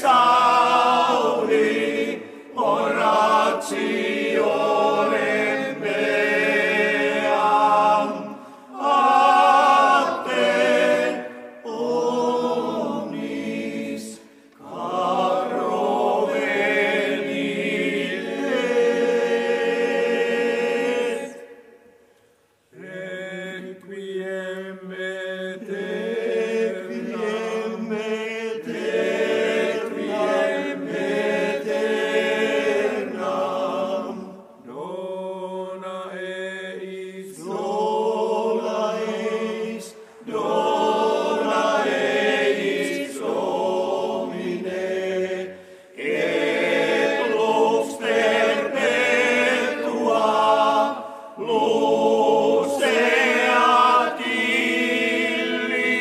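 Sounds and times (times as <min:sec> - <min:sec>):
male choir singing: 0:00.0 - 0:21.6, 0:22.8 - 0:56.0.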